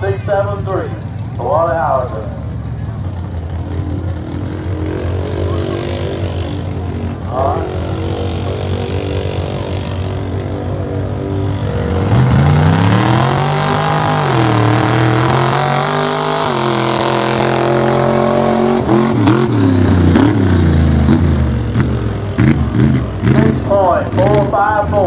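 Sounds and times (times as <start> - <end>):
engine revving: 3.0 - 25.0.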